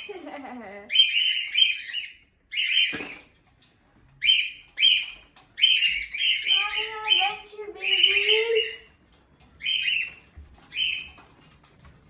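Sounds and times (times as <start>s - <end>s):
cockatiels chirping: 0.9s - 3.3s, 4.2s - 11.4s.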